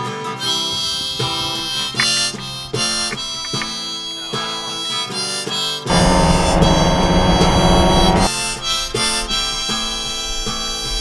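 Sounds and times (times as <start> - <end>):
harmonica playing sustained notes: 0.5 - 10.4.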